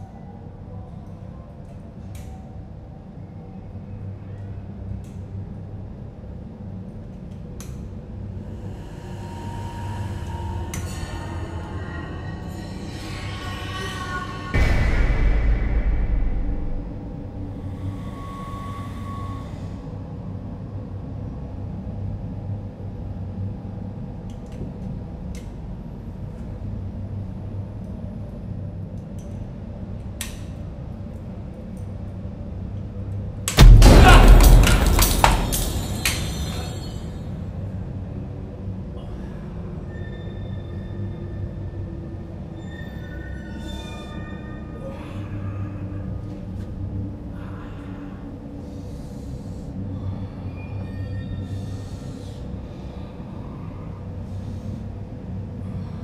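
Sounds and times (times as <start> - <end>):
low hum: 0.0 - 56.0
low rumbling suspense drone: 0.0 - 56.0.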